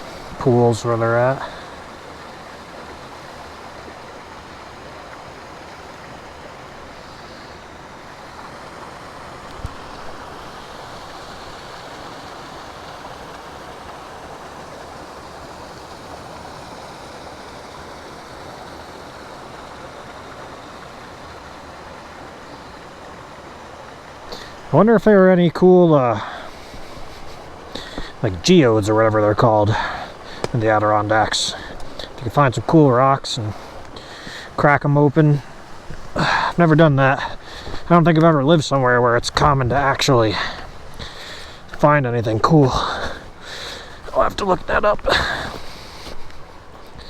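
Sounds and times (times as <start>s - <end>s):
stream flowing over rocks: 0.0s - 47.0s.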